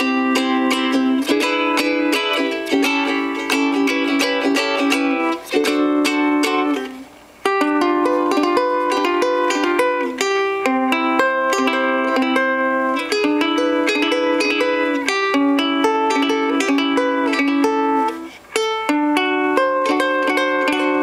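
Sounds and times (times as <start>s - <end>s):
ukulele fingerstyle melody: 0.0s - 21.0s.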